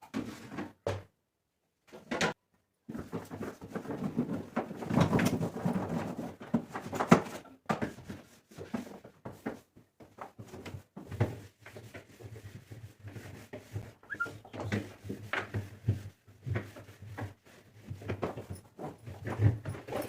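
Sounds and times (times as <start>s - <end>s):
items clattering in a refrigerator: 1.9s - 12.1s, 14.1s - 20.0s.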